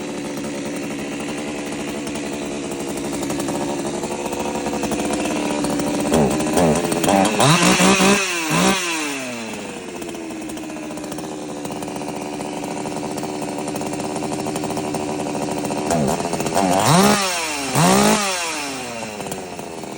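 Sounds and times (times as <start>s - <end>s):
chainsaw engine idling and revving: 0.0s - 19.9s.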